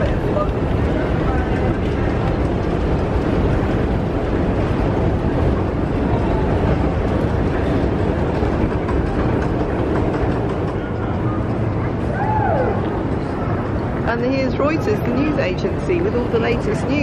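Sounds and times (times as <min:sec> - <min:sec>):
escalator low rumbling: 0:00.0 - 0:17.0.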